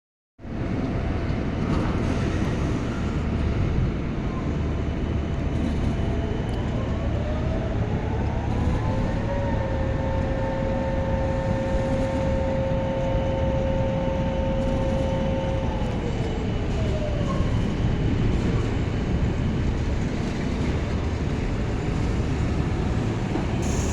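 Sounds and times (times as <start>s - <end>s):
low mechanical engine rumble: 0.4s - 23.9s.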